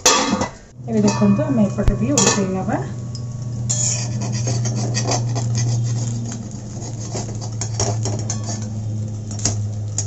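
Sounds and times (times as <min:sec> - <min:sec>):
metal spatula scraping pan: 0:00.0 - 0:09.4
cake crackling in frying pan: 0:00.0 - 0:10.0
steady low hum: 0:00.0 - 0:10.0.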